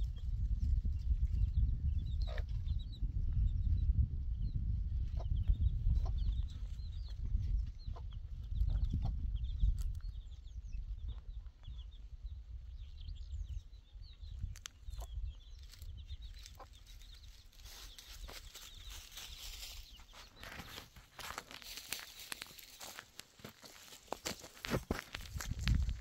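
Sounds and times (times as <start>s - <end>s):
wind buffeting microphone: 0.0s - 23.0s, 23.7s - 26.0s.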